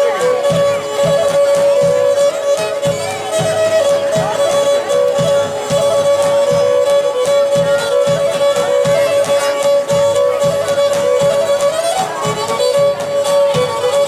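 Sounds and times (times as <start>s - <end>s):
drum beat: 0.0s - 14.0s.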